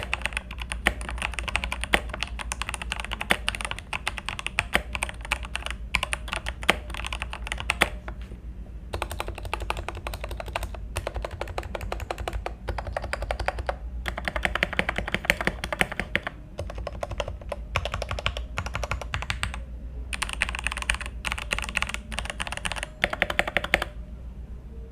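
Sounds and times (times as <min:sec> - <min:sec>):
mechanical keyboard typing: 0:00.0 - 0:08.2, 0:08.9 - 0:24.0.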